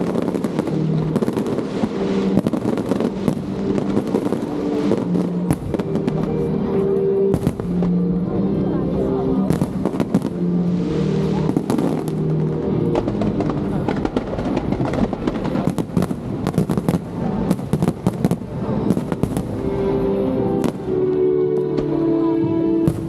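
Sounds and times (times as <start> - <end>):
fireworks bangs and crackling: 0.0 - 8.4, 9.2 - 23.0
music with held notes: 0.0 - 23.0.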